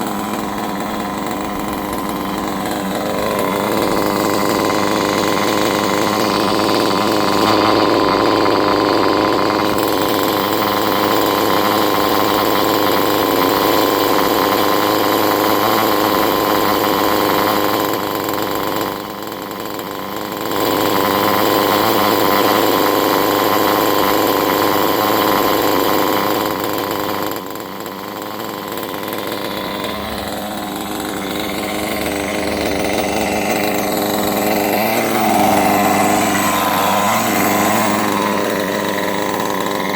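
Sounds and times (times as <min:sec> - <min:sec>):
small model engine running: 0:00.0 - 0:39.9.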